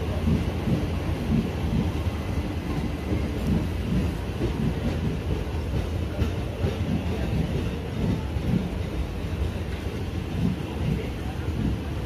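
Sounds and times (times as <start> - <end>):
train coaches rolling past: 0.0 - 12.0
train wheels knocking: 0.0 - 12.0.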